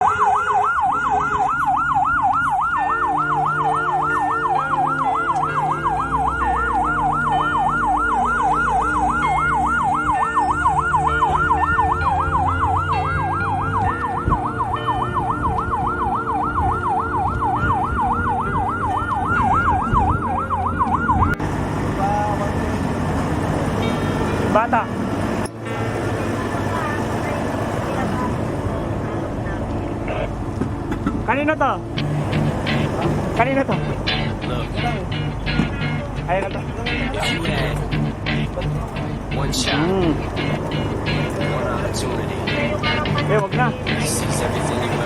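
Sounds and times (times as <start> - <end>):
fire engine siren yelping: 0.0 - 30.4, 31.9 - 45.0.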